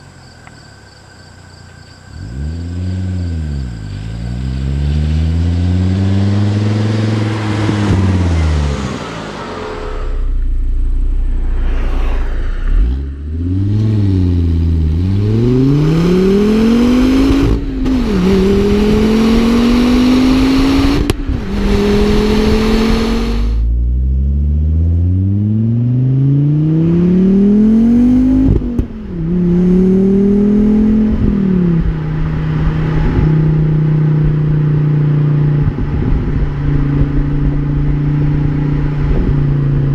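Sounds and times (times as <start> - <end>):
car engine accelerating through gears: 2.1 - 39.9.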